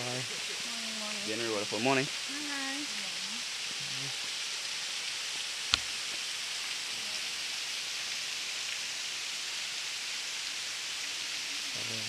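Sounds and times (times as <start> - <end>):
waterfall splashing into pool: 0.0 - 12.0.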